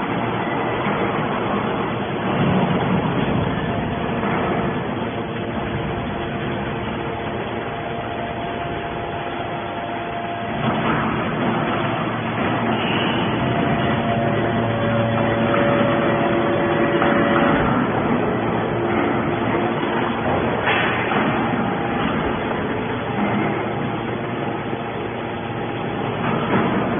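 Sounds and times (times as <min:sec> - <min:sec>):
machine drone with held tones: 0:00.0 - 0:26.9.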